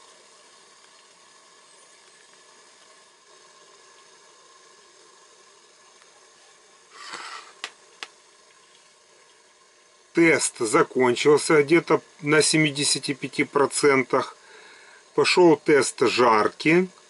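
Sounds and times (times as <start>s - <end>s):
multicooker steaming hiss: 0.0s - 17.0s.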